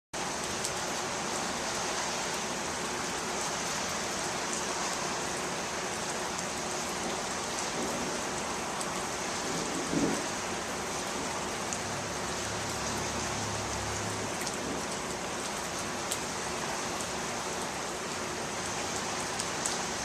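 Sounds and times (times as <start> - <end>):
steady rain falling: 0.2 - 20.0.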